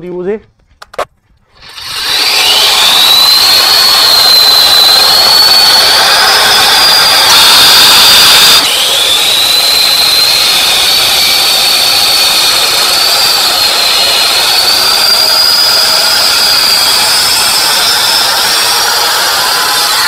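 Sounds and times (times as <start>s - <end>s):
blades grinding through masonry: 1.4s - 20.0s
high machine whine: 1.6s - 20.0s.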